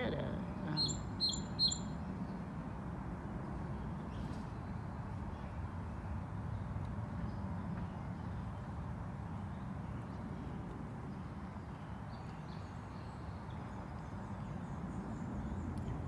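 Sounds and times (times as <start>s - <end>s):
small songbird chirping: 0.4s - 2.5s, 3.6s - 16.0s.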